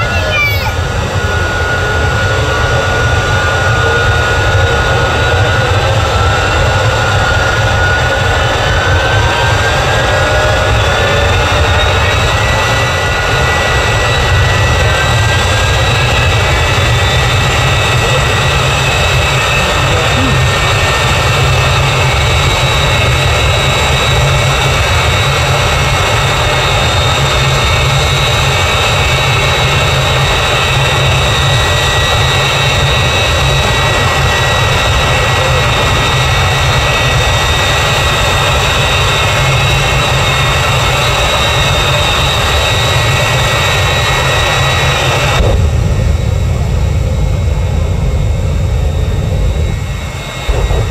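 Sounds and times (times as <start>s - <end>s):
jet engine turbine whine: 0.0s - 50.9s.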